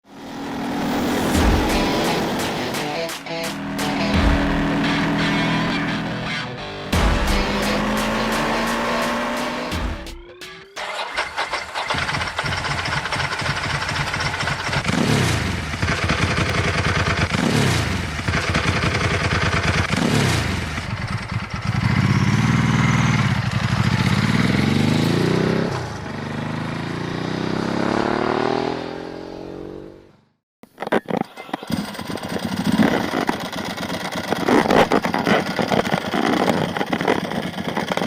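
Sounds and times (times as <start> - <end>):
motorcycle engine accelerating: 0.0 - 30.4, 31.4 - 38.0.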